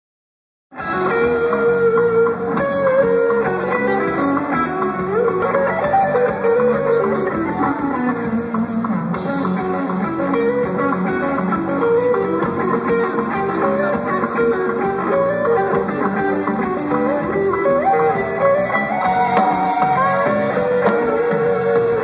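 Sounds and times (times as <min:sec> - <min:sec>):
metal band playing live: 0:00.7 - 0:22.0
electric guitar solo: 0:00.8 - 0:22.0.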